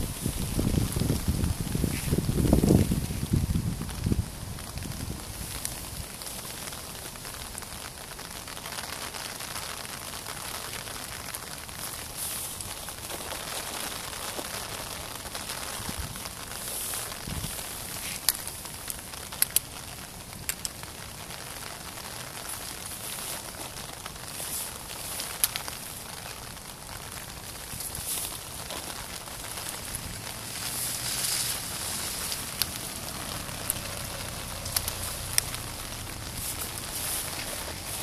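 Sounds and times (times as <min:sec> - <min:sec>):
rain patter: 0:00.0 - 0:38.0.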